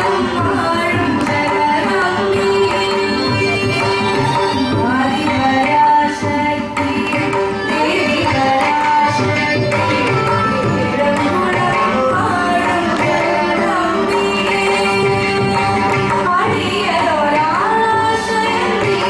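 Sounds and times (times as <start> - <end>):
hand drum playing: 0.0 - 17.6
woman singing: 0.0 - 19.0.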